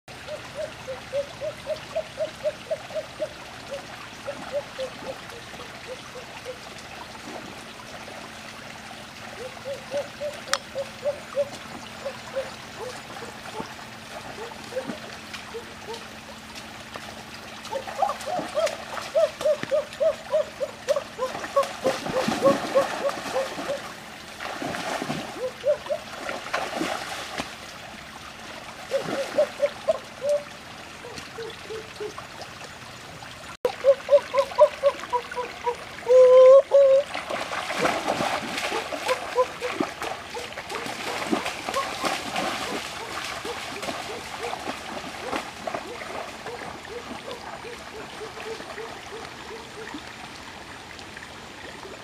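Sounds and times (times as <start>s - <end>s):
water splashing and sloshing: 0.1s - 52.0s.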